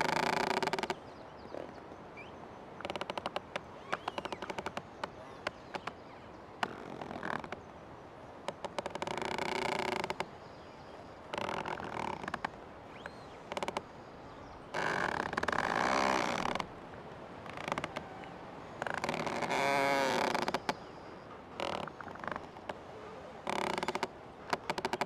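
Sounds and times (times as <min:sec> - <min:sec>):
tree creaking: 0:00.0 - 0:07.7, 0:08.4 - 0:25.0.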